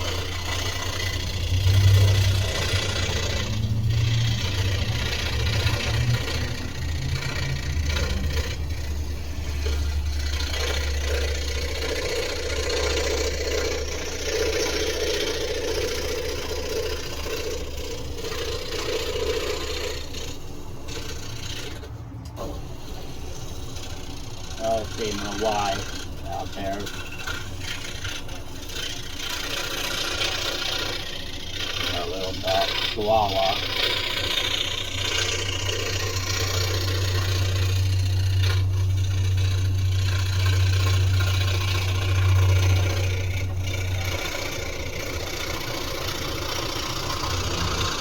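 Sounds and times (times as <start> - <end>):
motor humming: 0.0 - 48.0.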